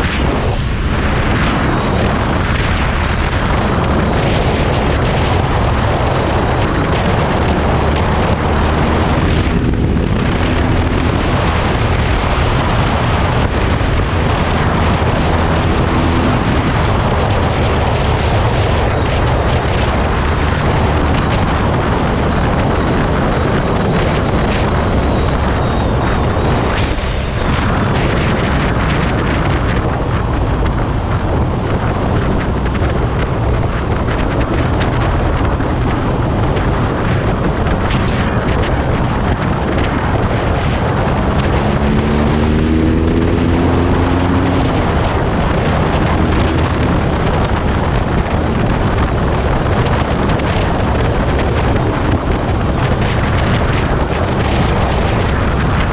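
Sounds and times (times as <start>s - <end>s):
motorcycle engine running: 0.0s - 55.9s
wind noise on microphone: 0.0s - 55.9s.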